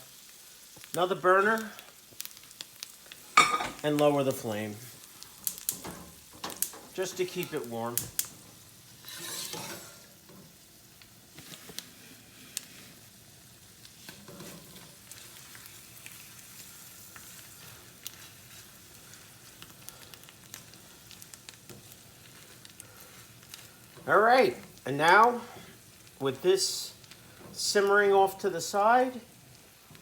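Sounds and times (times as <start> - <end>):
food sizzling in pan: 0.0 - 30.0.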